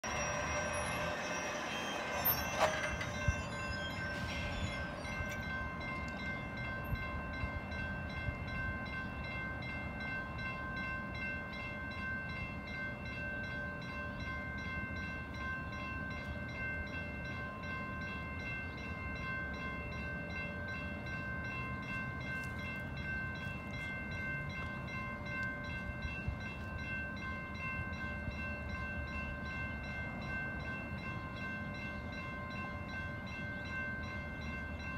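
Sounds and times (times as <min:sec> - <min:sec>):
railroad crossing bells ringing: 0:00.0 - 0:34.9.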